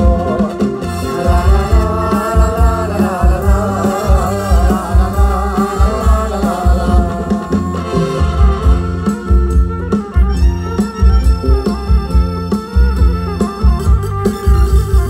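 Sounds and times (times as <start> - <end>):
heavy drum beat: 0.0 - 15.0
stage band over loudspeakers: 0.0 - 15.0.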